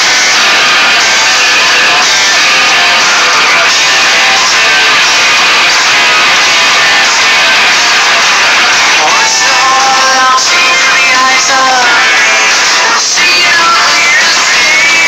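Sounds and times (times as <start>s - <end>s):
guitar music: 0.0s - 15.0s.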